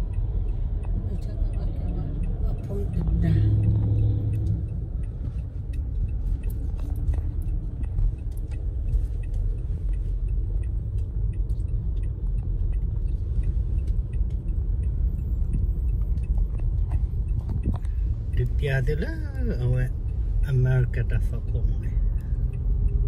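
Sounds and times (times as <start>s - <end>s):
car engine and tyre rumble: 0.0s - 23.0s
faint ticks: 0.0s - 23.0s.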